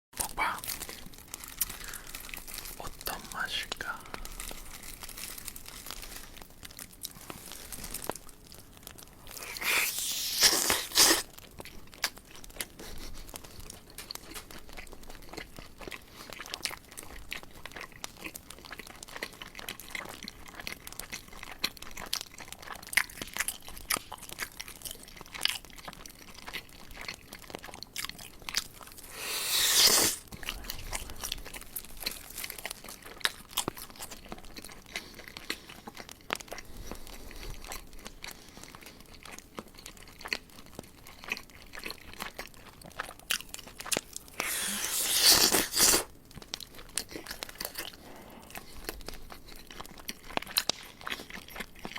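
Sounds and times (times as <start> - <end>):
chewing crispy fried chicken: 0.2 - 51.9
crunching bites into crust: 0.2 - 51.9.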